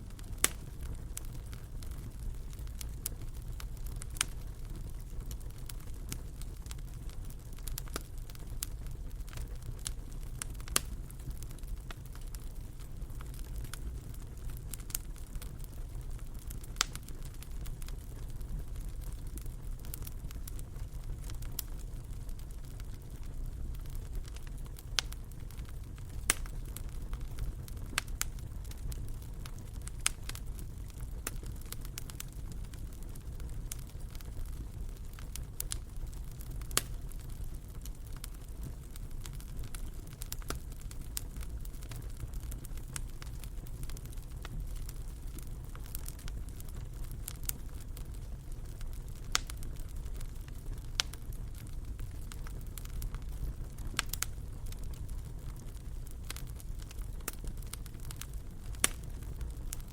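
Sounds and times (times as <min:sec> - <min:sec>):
fire crackling and popping: 0:00.0 - 0:59.9
fire low rumble: 0:00.0 - 0:59.9.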